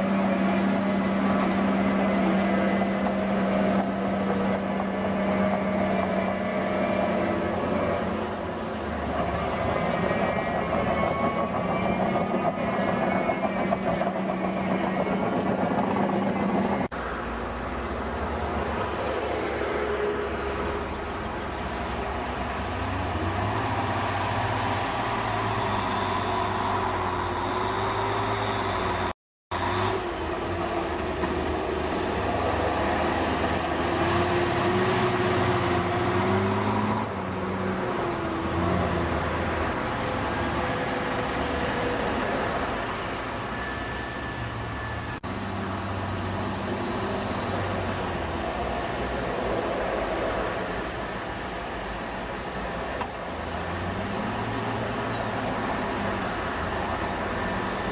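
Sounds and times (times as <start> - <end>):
bulldozer diesel engine: 0.0 - 57.9.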